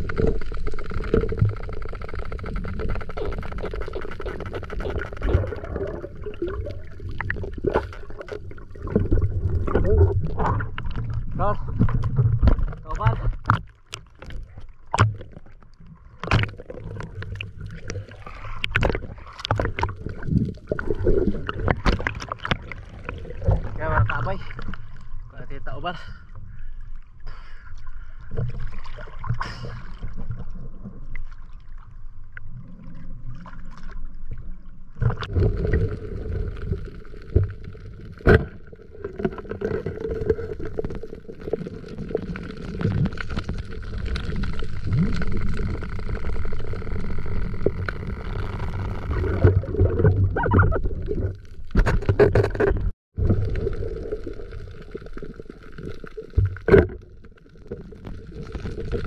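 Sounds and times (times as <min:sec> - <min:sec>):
water swirling and gurgling: 0:00.0 - 0:59.0.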